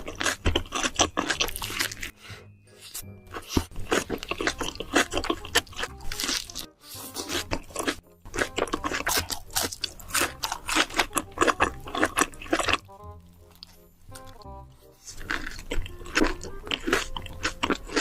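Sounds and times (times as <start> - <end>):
person chewing crunchy food: 0.0 - 18.0.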